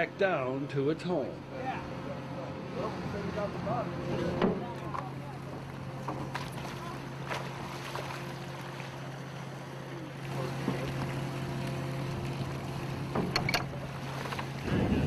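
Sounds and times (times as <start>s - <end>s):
boat machinery humming: 0.0s - 15.0s
wind: 0.0s - 15.0s.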